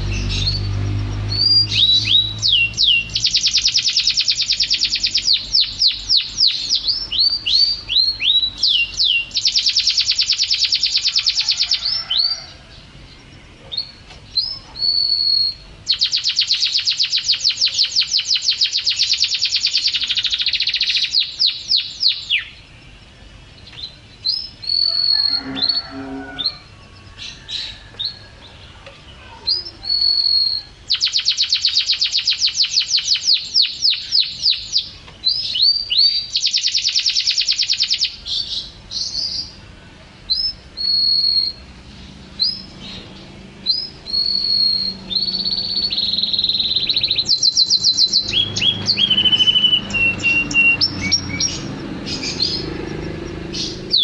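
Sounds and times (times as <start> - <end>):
bird singing trills and whistles: 0.0 - 39.6, 40.3 - 54.0.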